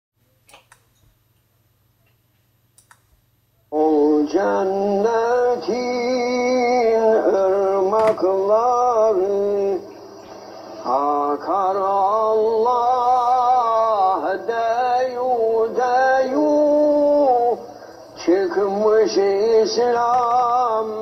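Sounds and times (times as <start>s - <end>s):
faint low hum: 0.2s - 21.0s
person singing devotional song: 3.7s - 21.0s.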